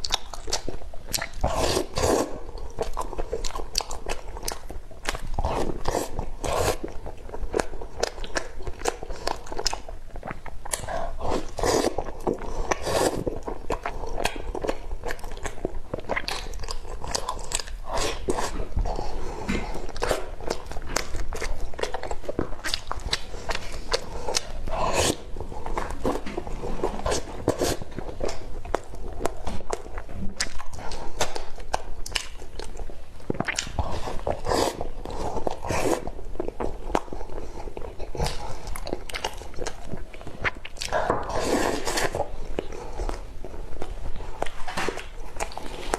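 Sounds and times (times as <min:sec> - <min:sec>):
chewing and biting: 0:00.0 - 0:45.9.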